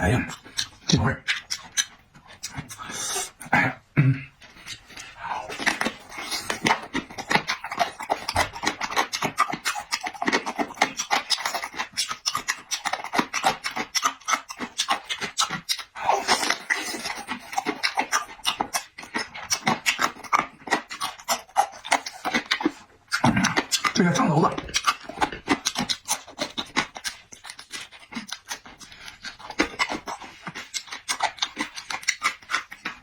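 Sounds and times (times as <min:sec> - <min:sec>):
person chewing: 0:00.0 - 0:33.0.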